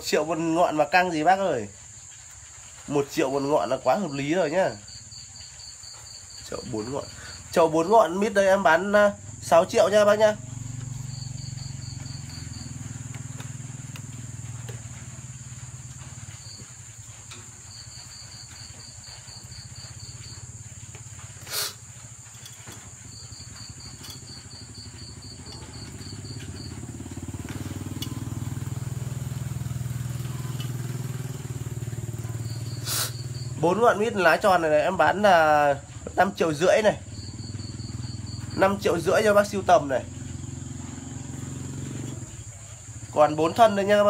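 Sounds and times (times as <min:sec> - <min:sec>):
cricket chirping: 0:00.0 - 0:44.0
low engine rumble: 0:06.5 - 0:44.0.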